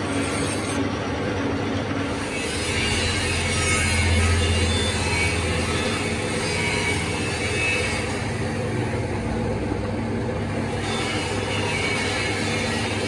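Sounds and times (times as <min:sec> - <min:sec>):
workshop machine running: 0:00.0 - 0:13.0.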